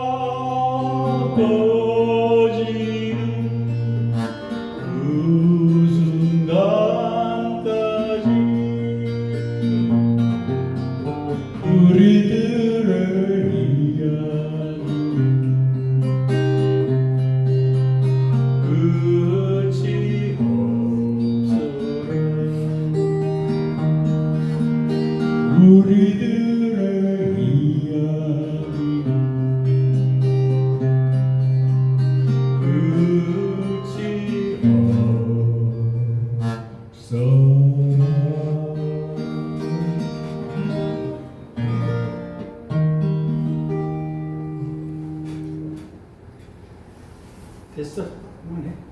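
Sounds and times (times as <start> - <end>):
acoustic guitar folk song: 0.0 - 47.9.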